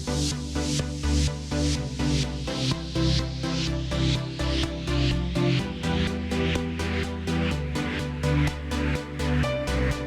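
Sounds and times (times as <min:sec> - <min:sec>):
bass line: 0:00.0 - 0:10.0
electronic beat music: 0:00.0 - 0:10.0.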